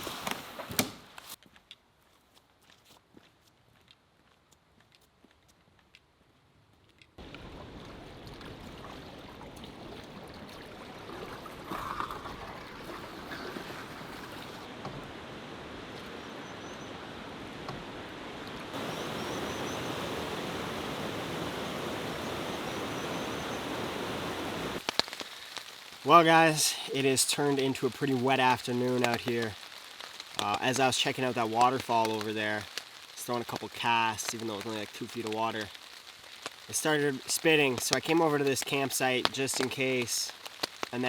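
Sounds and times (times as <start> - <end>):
rushing water: 7.2 - 41.0.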